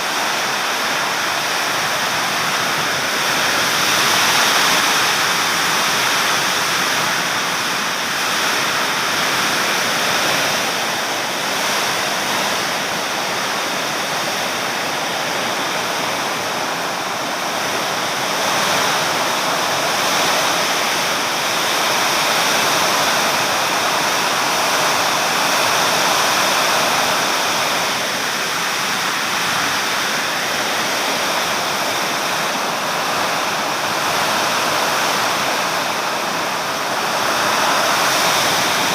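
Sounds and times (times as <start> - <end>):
heavy rain: 0.0 - 38.9
wind: 0.0 - 38.9.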